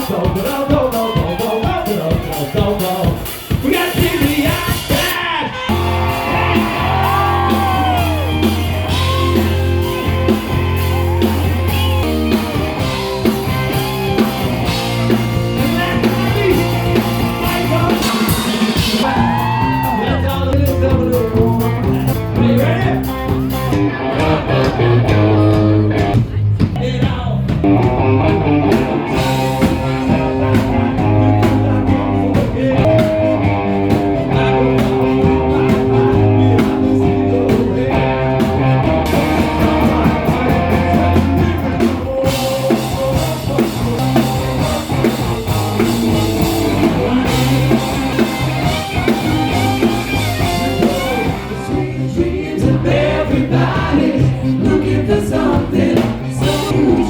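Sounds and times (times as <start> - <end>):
person singing: 0.0 - 23.1, 28.9 - 57.0
bass guitar: 0.0 - 57.0
electric guitar: 5.6 - 26.3, 27.5 - 57.0.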